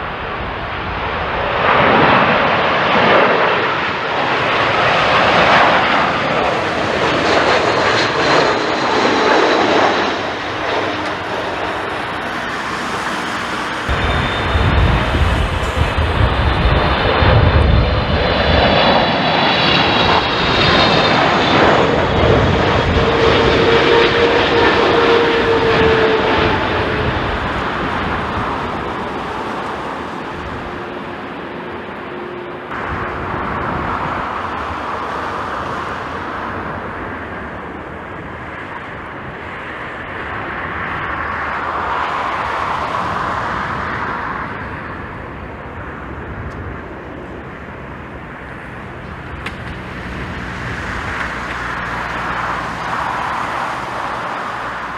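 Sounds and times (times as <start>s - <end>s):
distant jet rumble: 0.0s - 54.9s
jet engines passing: 0.0s - 54.9s.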